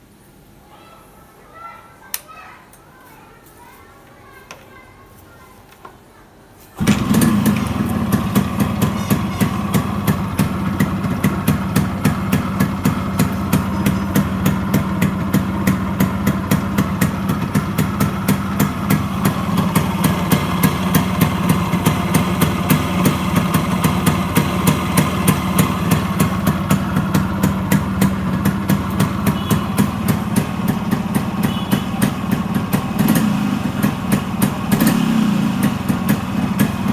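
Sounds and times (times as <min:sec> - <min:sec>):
motorcycle engine idling: 0:06.8 - 0:36.9.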